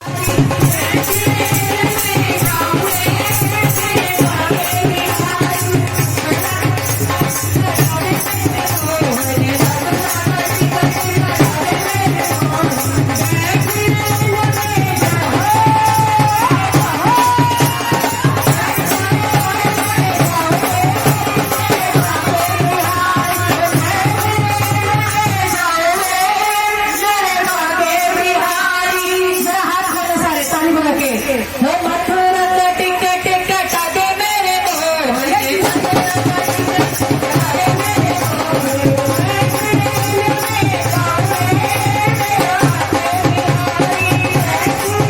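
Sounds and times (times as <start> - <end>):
devotional music with drums: 0.0 - 45.0.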